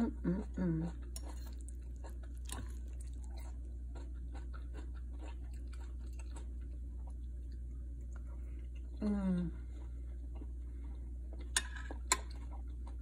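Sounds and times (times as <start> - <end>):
steady low hum: 0.0 - 13.0
chewing and wet mouth sounds: 0.2 - 13.0.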